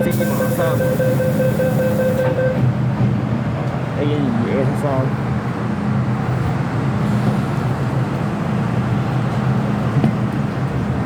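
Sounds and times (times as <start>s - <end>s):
train wheels and motors rumbling: 0.0s - 11.0s.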